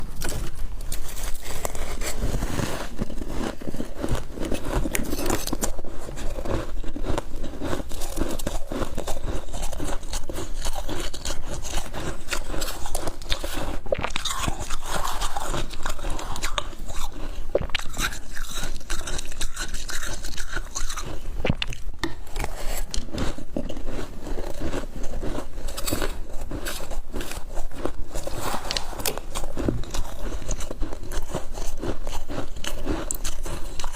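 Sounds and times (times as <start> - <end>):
frost being chewed: 0.0 - 33.9.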